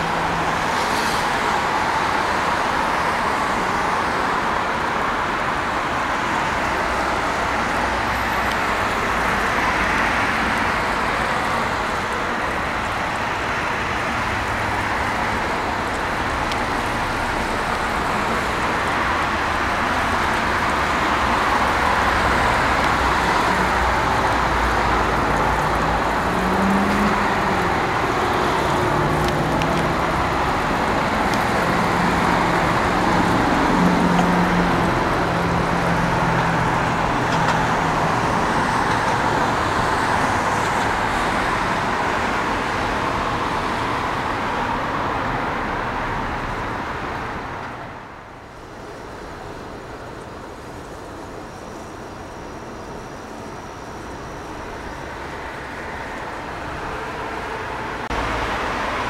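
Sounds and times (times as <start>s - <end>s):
road traffic noise: 0.0s - 59.0s
vehicle engine drone: 0.0s - 59.0s.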